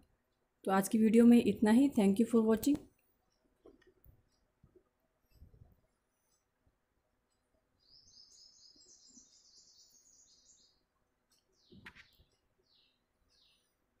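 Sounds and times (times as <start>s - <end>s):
faint bird chirping: 1.2s - 14.0s.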